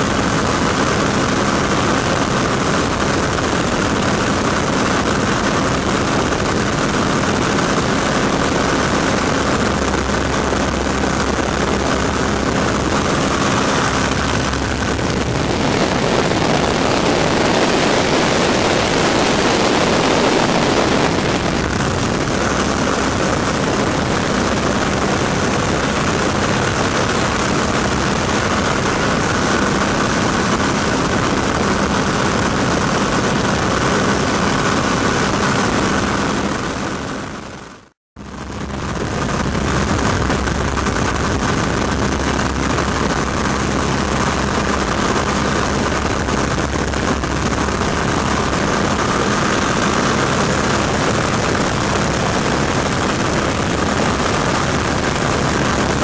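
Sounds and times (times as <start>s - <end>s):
propeller plane engine running: 0.0s - 56.0s
slipstream wind rushing: 0.0s - 56.0s.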